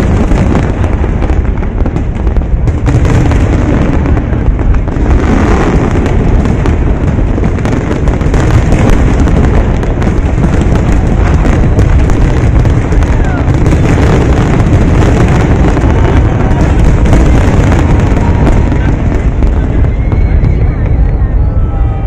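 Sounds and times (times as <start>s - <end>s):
firework shells exploding: 0.0s - 22.0s.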